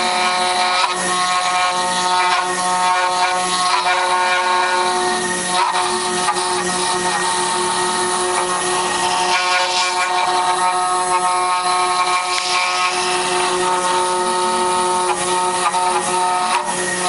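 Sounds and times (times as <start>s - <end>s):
end mill cutting wood: 0.0s - 17.0s
router spindle whine: 0.0s - 17.0s.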